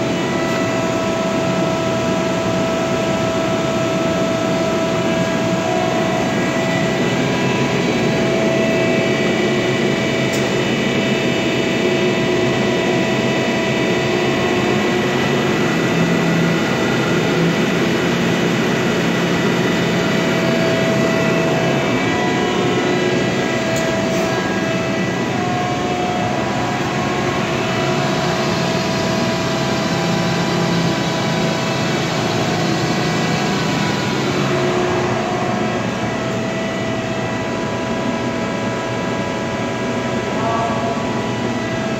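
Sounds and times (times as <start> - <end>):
heavy industrial machine humming: 0.0 - 41.9.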